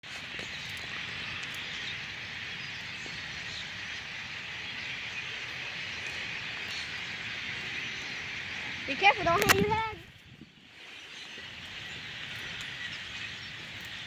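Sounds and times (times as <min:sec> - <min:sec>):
flock of blackbirds chattering: 0:00.0 - 0:14.0.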